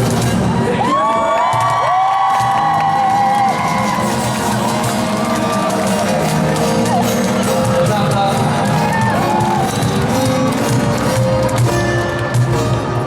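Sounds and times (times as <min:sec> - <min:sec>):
live band music: 0:00.0 - 0:00.9, 0:02.2 - 0:13.0
crowd cheering and whooping: 0:00.4 - 0:12.9.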